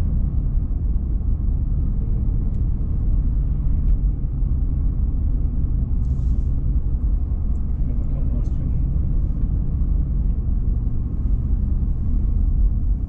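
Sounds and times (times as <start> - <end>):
car driving heard from inside: 0.0 - 13.0.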